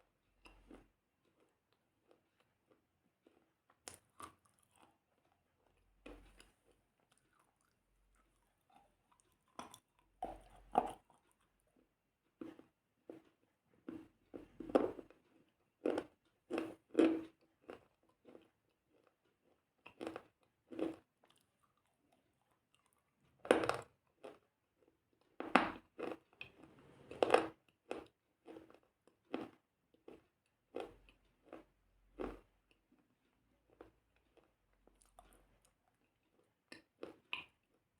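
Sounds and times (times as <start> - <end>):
chewing crunchy food: 0.0 - 37.9.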